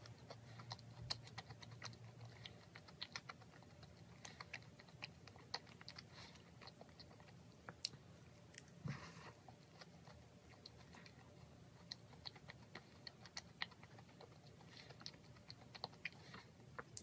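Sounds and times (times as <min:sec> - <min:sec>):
crisp chewing: 0:00.0 - 0:17.0.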